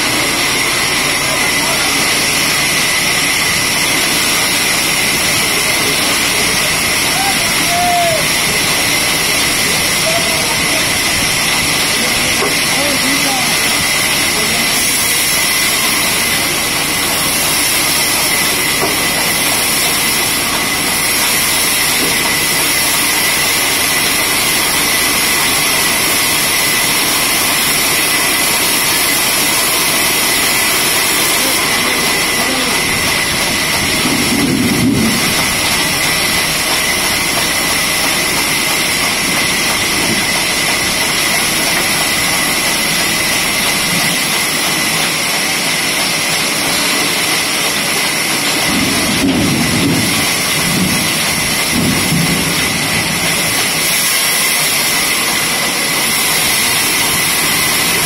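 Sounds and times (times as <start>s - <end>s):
band saw whine and hiss: 0.0s - 58.0s.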